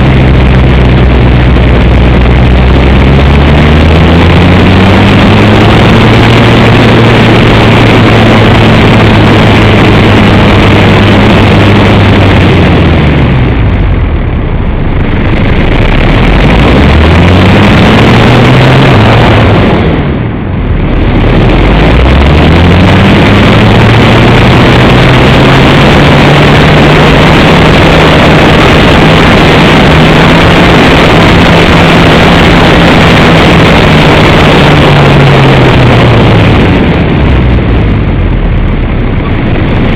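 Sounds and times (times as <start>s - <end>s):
electric motor and propeller: 0.0s - 39.9s
wind rushing: 0.0s - 39.9s.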